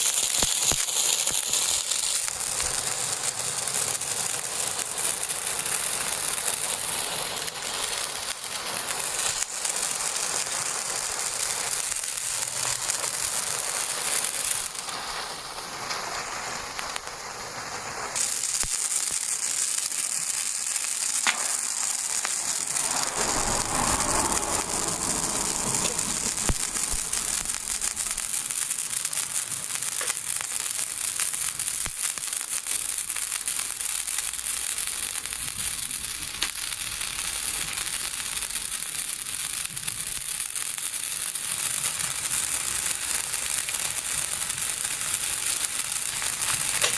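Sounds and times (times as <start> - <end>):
fireworks hissing sparks: 0.0 - 46.9.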